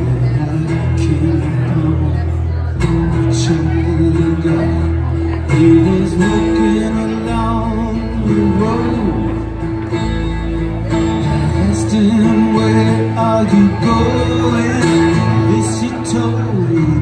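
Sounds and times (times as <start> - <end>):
acoustic bass guitar: 0.0 - 17.0
electric guitar: 0.0 - 17.0
strummed acoustic guitar: 0.0 - 17.0.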